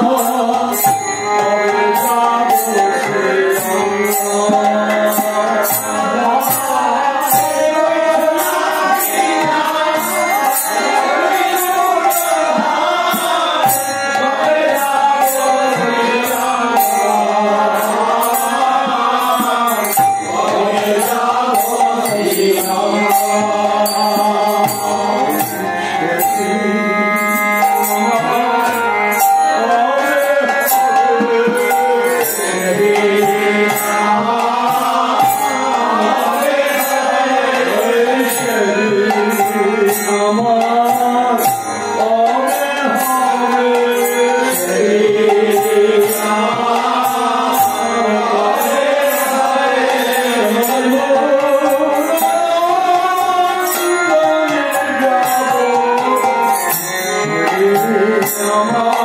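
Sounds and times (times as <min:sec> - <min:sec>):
hand cymbals: 0:00.0 - 0:59.0
man singing: 0:00.0 - 0:59.0.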